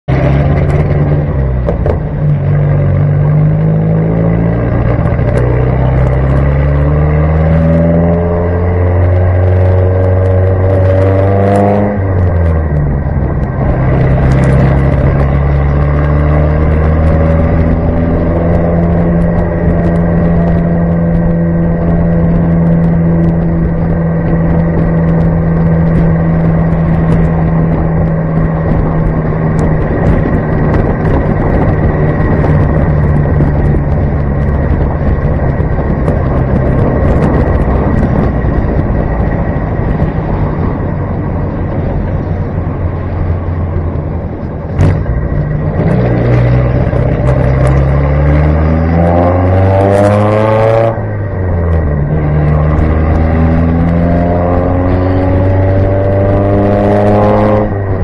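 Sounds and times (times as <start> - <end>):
car engine accelerating: 0.0 - 58.0
wind and road noise: 0.0 - 58.0.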